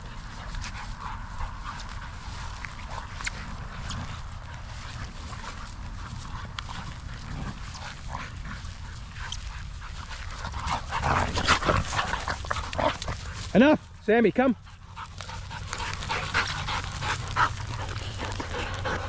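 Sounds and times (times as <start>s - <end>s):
dogs yipping and growling: 0.0s - 13.5s, 15.0s - 19.0s.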